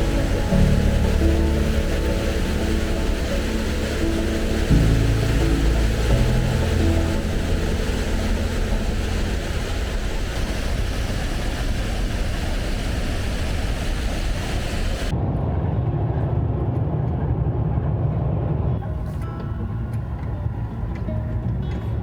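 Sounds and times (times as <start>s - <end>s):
low muffled rumble: 0.0s - 22.0s
road and wind noise: 0.0s - 22.0s.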